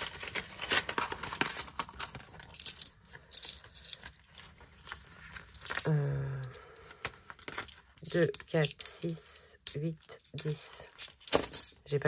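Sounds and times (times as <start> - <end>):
coins clinking and jingling: 1.1 - 6.6, 7.6 - 12.0.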